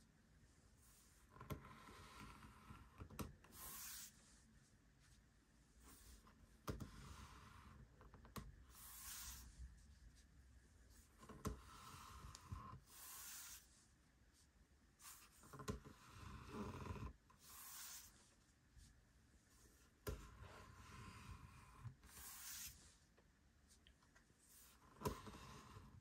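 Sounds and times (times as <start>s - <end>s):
hands rubbing model: 0.8s - 5.2s, 5.8s - 10.3s, 10.9s - 23.1s.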